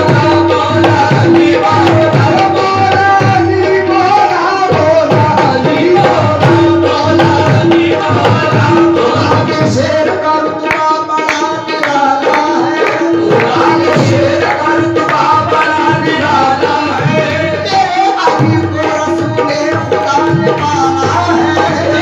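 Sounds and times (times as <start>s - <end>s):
tabla drumming: 0.0s - 22.0s.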